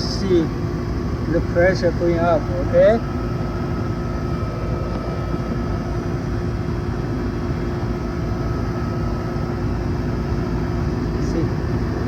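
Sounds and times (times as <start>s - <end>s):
compressor humming: 0.0s - 12.0s
fan rushing: 0.0s - 12.0s.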